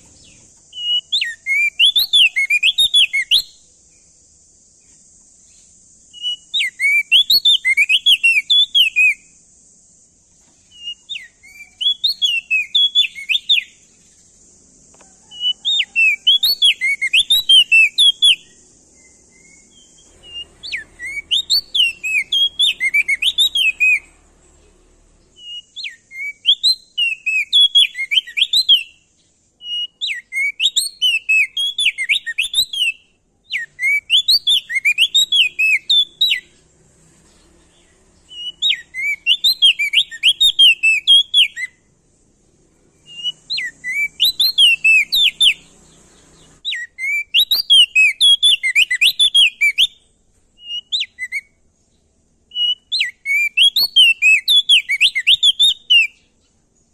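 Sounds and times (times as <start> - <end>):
bird whistling song: 0.0 - 4.2, 4.8 - 9.6, 10.3 - 42.0, 42.9 - 56.9.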